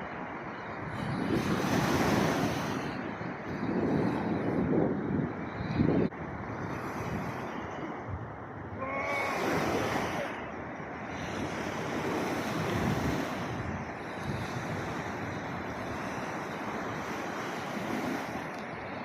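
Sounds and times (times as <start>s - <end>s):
sea waves washing on shore: 0.0s - 19.0s
wind buffeting microphone: 0.0s - 19.0s.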